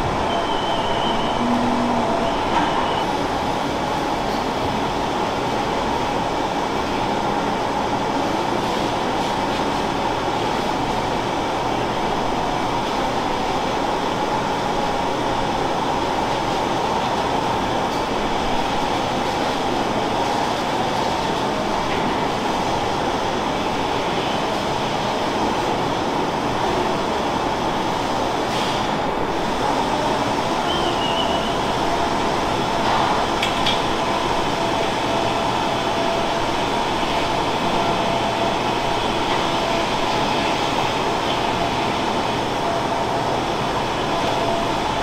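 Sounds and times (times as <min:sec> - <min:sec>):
milking machinery hiss and hum: 0:00.0 - 0:45.0.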